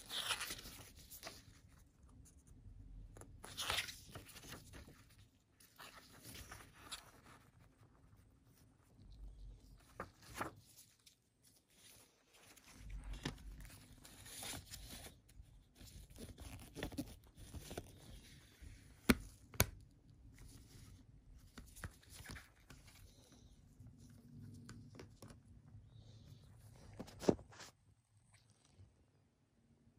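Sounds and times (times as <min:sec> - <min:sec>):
paper booklet rustling: 0:00.0 - 0:02.4, 0:03.0 - 0:27.8.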